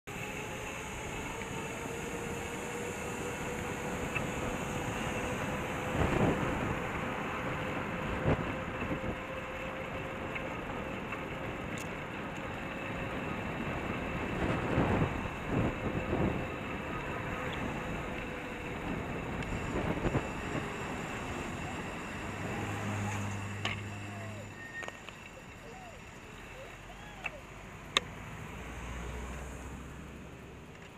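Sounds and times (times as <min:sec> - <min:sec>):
wind and road rumble: 0:00.0 - 0:30.9.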